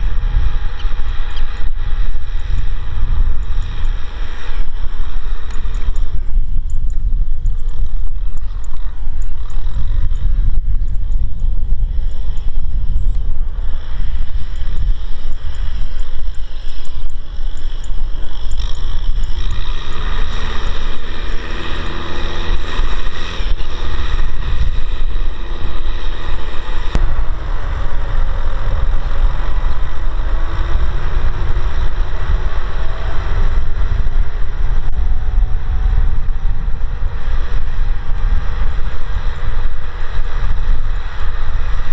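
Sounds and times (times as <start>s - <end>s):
tractor diesel engine under load: 0.0s - 41.9s
wind rumble on microphone: 0.0s - 41.9s.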